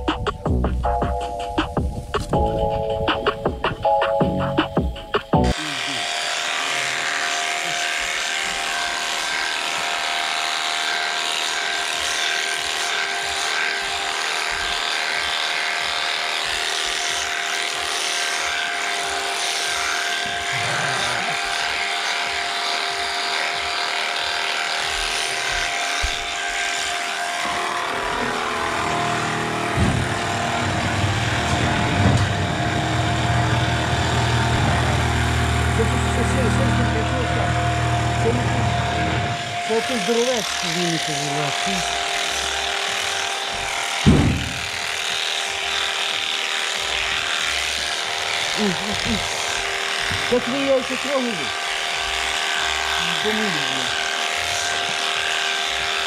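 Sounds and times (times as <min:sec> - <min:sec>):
electric shearing handpiece buzzing: 0:00.0 - 0:56.0.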